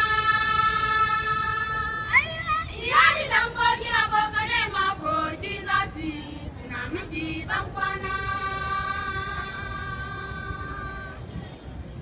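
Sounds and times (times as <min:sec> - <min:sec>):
girls singing together: 0:00.0 - 0:11.2.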